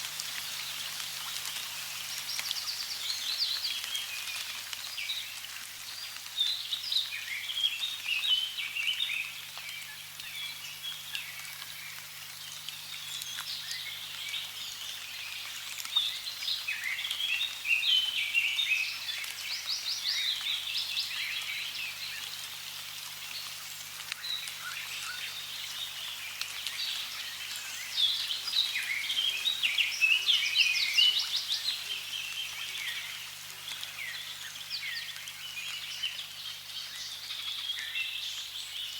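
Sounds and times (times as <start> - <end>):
running water hiss: 0.0 - 38.9.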